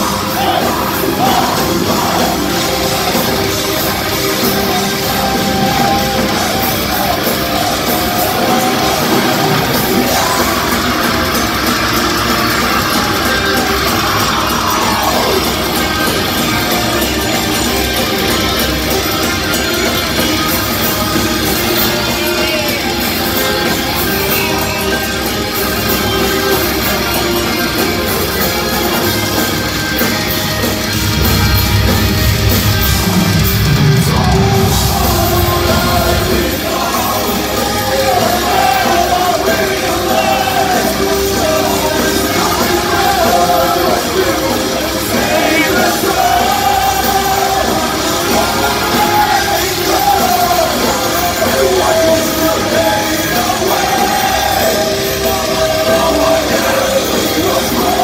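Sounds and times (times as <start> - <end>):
heavy metal band playing: 0.0 - 58.0
melodic vocal singing: 0.0 - 58.0.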